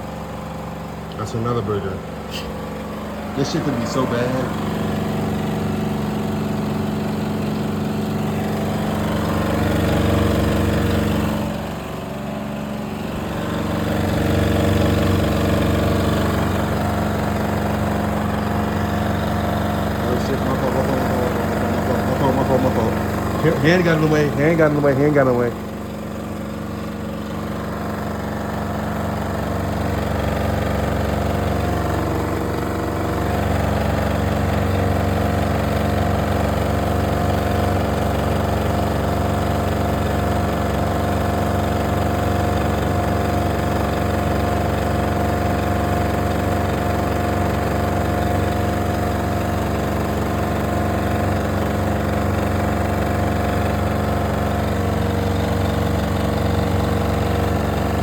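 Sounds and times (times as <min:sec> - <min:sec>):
electric fan humming: 0:00.0 - 0:58.0.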